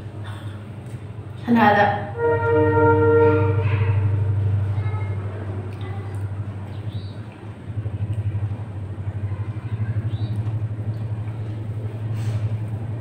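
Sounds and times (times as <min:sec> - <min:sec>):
low throbbing machine hum: 0:00.0 - 0:13.0.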